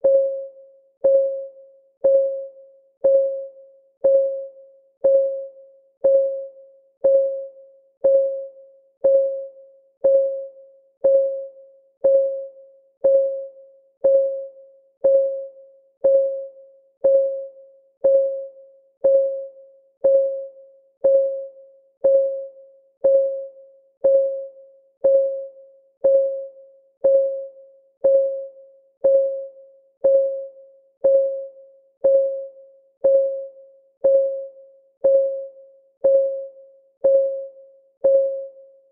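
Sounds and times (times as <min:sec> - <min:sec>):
timer clock ticking: 0:03.0 - 0:38.6.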